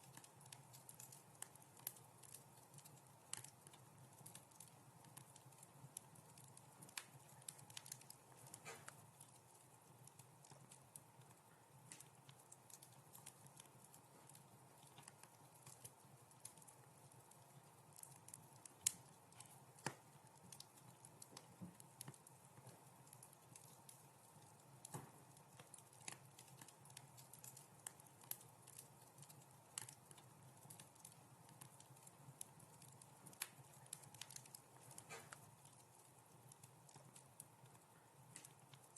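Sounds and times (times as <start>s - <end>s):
faint steady hiss: 0.0s - 38.9s
wood fire crackling: 0.0s - 38.9s.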